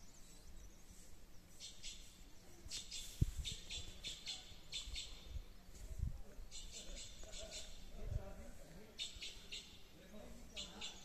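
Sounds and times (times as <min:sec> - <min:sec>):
birds chirping: 0:00.0 - 0:05.5, 0:06.4 - 0:08.0, 0:08.9 - 0:11.0.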